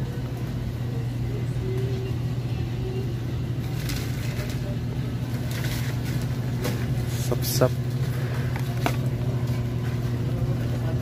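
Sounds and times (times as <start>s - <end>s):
refrigeration machinery hum: 0.0s - 11.0s.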